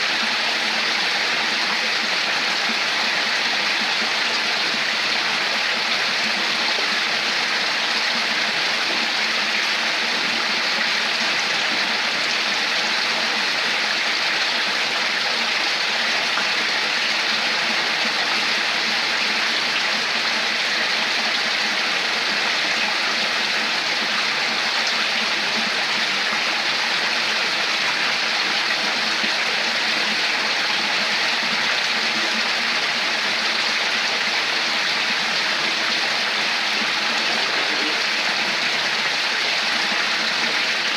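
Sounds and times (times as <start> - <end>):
running water splashing: 0.0 - 40.9.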